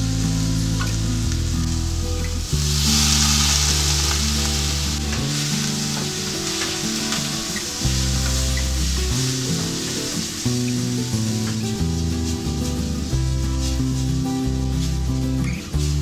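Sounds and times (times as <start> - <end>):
background music with low notes: 0.0 - 16.0
loud sizzling hiss: 0.0 - 16.0
pork frying in a wok: 0.0 - 16.0.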